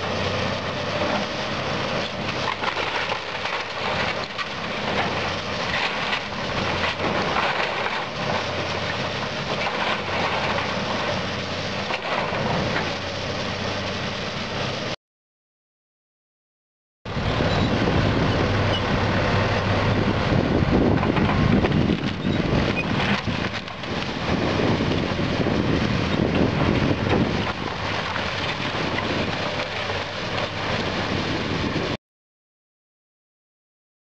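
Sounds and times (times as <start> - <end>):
excavator diesel engine: 0.0 - 15.0, 17.1 - 32.0.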